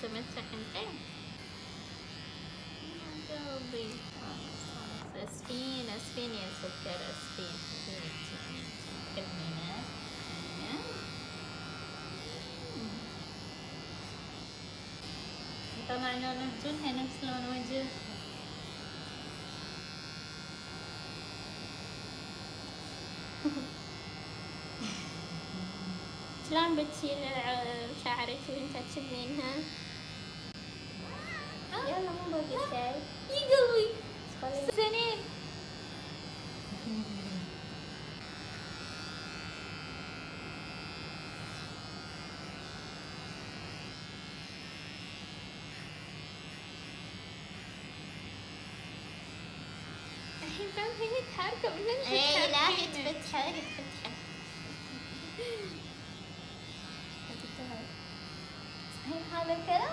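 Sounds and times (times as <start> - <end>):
electric hair clippers running: 0.0 - 59.9.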